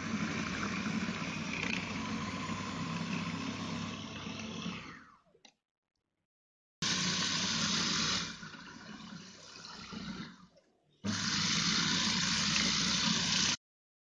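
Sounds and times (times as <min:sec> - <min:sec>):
food processor motor grinding: 0:00.0 - 0:05.2, 0:06.8 - 0:13.6.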